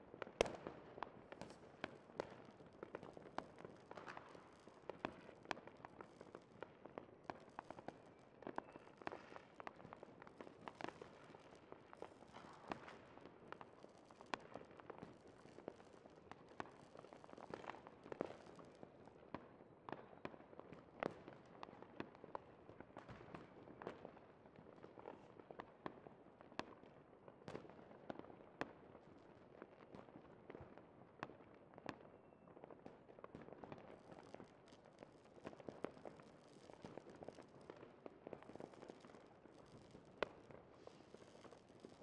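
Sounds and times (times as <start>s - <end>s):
faint fireworks crackle: 0.0s - 42.0s
fireworks pops and bangs: 0.0s - 42.0s.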